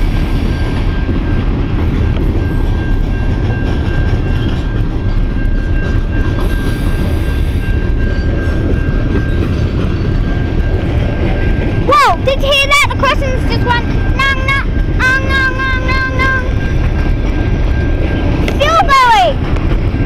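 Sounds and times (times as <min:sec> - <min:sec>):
freight train rumbling over rails: 0:00.0 - 0:20.0
level crossing alarm ringing: 0:00.2 - 0:19.4.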